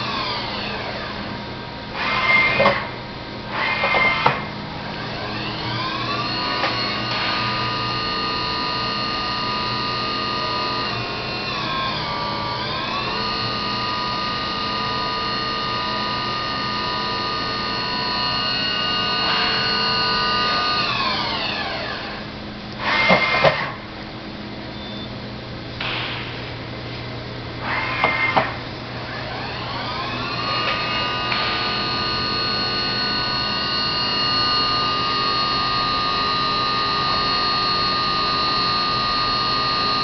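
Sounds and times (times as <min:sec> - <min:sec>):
mill spindle whine: 0:00.0 - 0:40.0.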